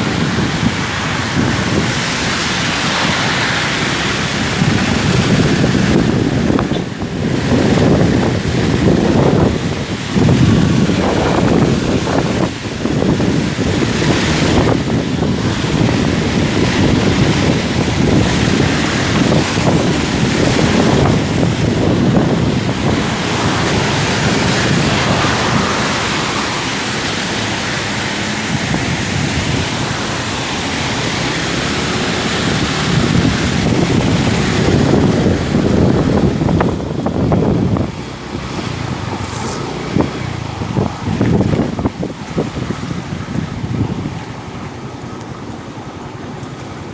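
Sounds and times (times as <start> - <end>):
motorcycle engine: 0.0 - 46.9
road noise: 0.0 - 46.9
wind buffeting microphone: 0.0 - 46.9.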